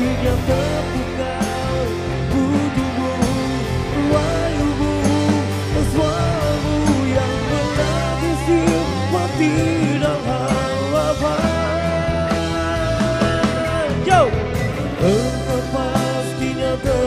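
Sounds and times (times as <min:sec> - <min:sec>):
men singing into microphones: 0:00.0 - 0:14.4, 0:15.0 - 0:17.0
electric bass guitar: 0:00.0 - 0:17.0.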